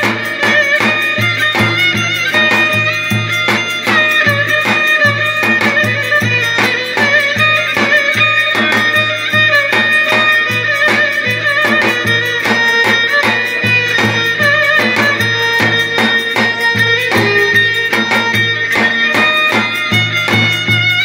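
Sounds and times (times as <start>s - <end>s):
folk dance music: 0.0s - 21.0s.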